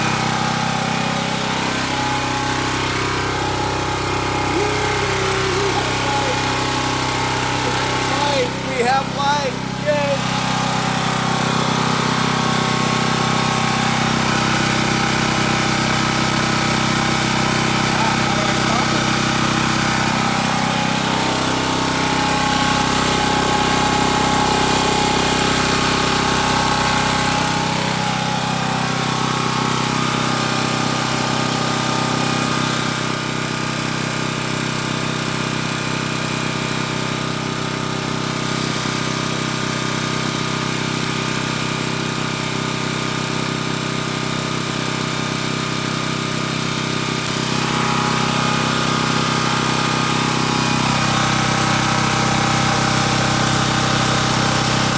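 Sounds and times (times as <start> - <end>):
generator engine running: 0.0 - 54.9.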